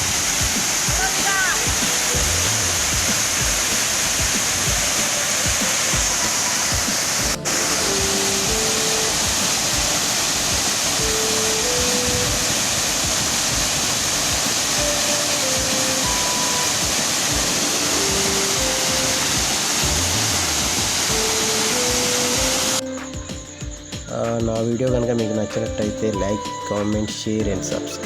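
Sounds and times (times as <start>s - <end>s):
waterfall rushing: 0.0s - 23.0s
faint background music: 0.0s - 28.0s.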